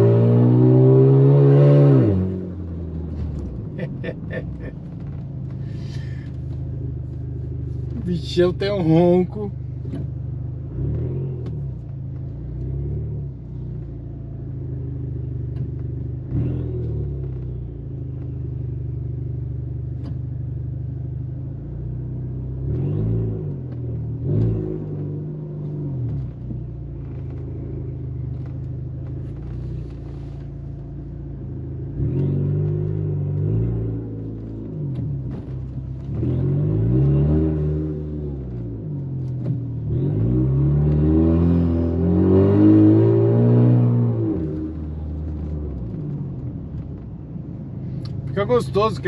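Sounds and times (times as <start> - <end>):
car engine growling and revving: 0.0 - 49.0.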